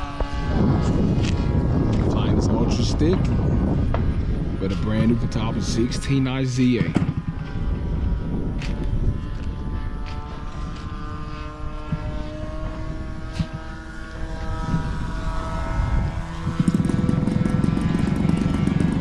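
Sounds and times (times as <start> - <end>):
close steady engine: 0.0 - 19.0
model airplane propeller drone: 0.0 - 19.0.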